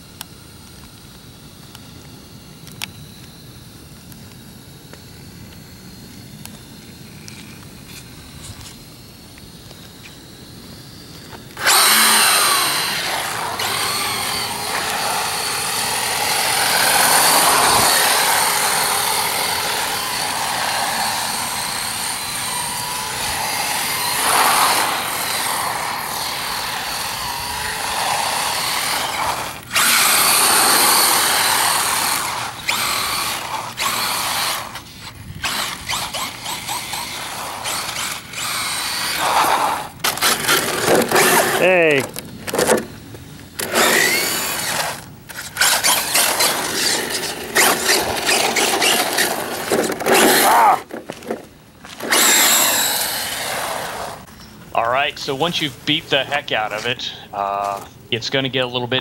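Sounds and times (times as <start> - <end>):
electric motor whining: 0.1 - 54.4.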